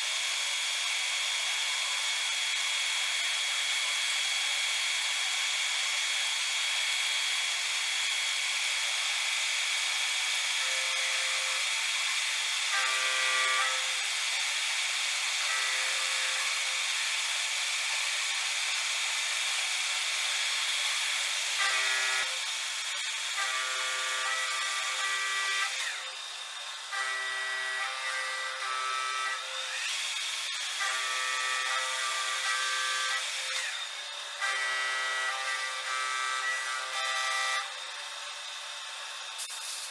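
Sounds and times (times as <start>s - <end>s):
lathe whirring with high whine: 0.1s - 39.4s.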